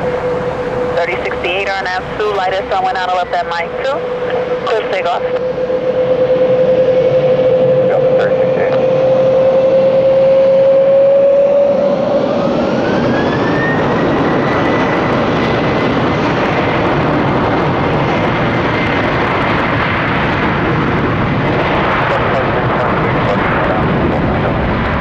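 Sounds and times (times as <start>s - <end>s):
jet engines spooling up: 0.0s - 25.0s.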